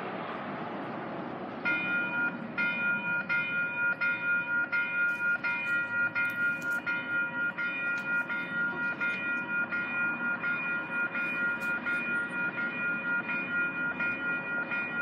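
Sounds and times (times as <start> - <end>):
train rumbling on rails: 0.0 - 15.0
train warning bell ringing: 1.6 - 15.0.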